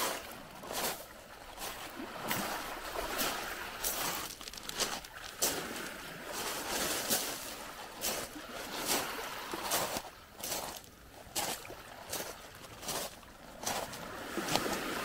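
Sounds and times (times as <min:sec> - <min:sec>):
waves washing on a beach: 0:00.0 - 0:15.0.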